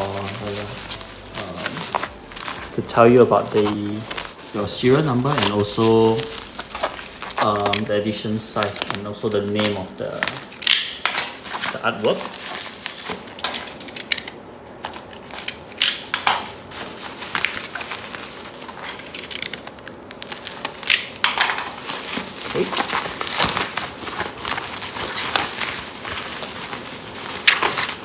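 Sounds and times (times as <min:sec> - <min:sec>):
bubble wrap crackling: 0:00.0 - 0:28.0.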